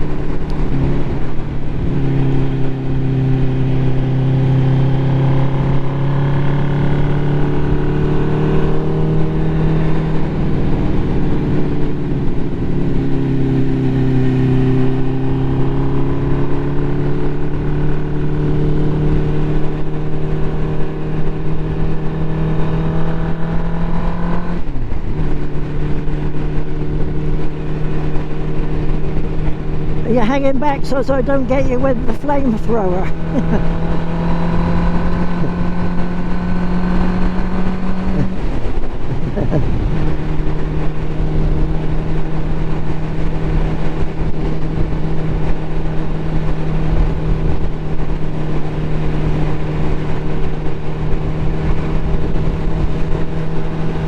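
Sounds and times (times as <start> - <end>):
motorcycle engine accelerating: 0.0 - 54.0
gear change: 3.7 - 54.0.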